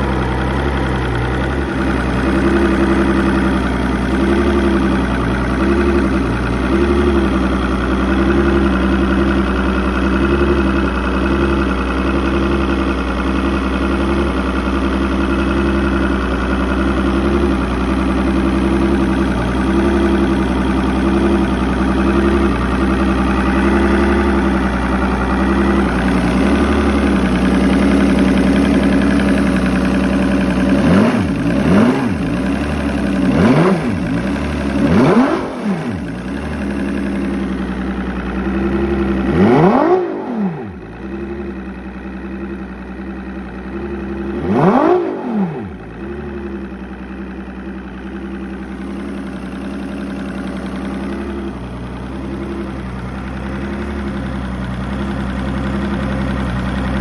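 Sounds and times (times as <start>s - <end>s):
outboard motor idling and revving: 0.0s - 57.0s.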